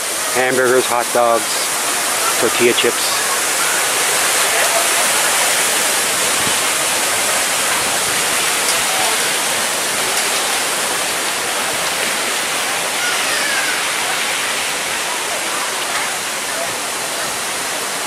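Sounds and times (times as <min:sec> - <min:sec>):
splashing falling water: 0:00.0 - 0:18.0.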